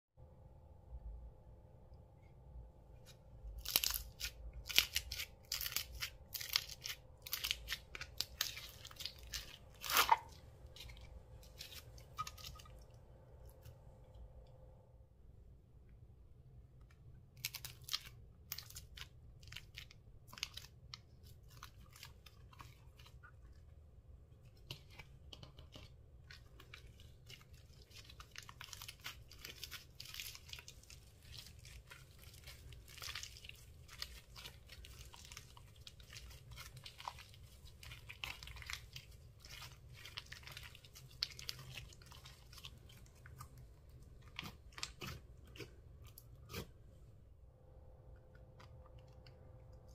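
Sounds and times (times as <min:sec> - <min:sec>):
slime crackling and squishing: 0:03.5 - 0:14.0, 0:17.4 - 0:47.0.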